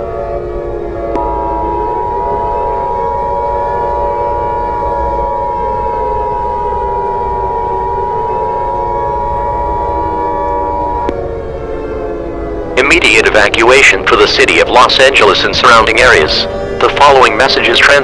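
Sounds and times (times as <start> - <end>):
low wavering drone: 0.0 - 18.0
two-tone electronic alarm: 0.0 - 18.0.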